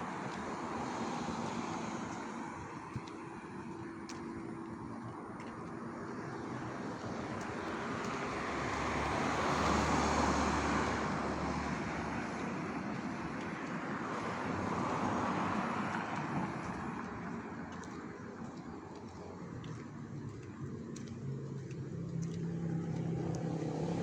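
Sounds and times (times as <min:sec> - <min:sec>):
vehicles passing: 0:00.0 - 0:24.0.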